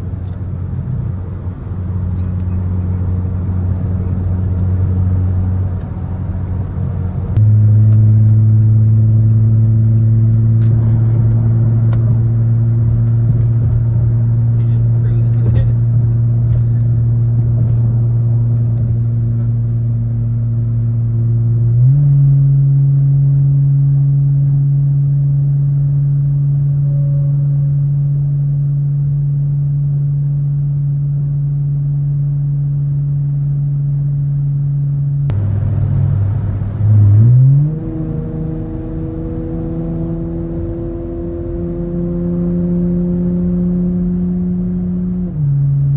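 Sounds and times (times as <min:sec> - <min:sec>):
car engine and exhaust droning: 0:00.0 - 0:45.9.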